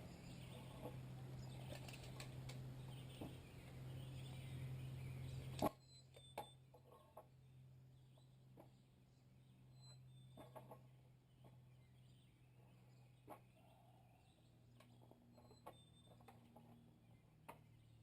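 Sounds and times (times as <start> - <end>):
faint bird chirps: 0.0 - 18.0
low steady hum: 0.0 - 18.0.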